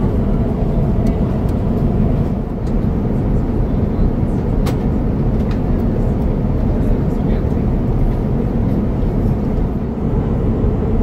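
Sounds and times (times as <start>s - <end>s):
aircraft cabin low rumble: 0.0s - 11.0s.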